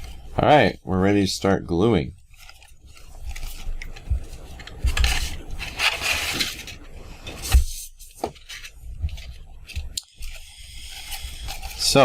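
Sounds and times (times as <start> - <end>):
paper rustling: 2.2 - 12.0.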